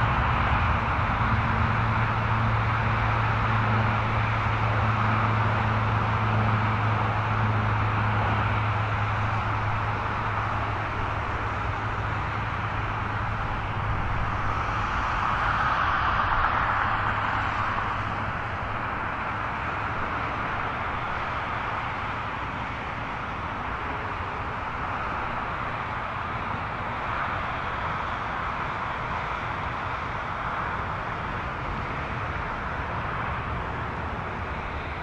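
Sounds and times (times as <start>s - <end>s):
jet airliner taking off: 0.0s - 35.0s.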